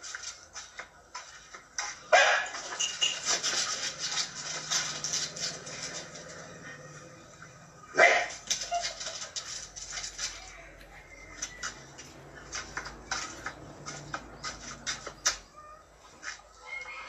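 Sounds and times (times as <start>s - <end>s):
animals scrambling on concrete: 0.0s - 17.0s.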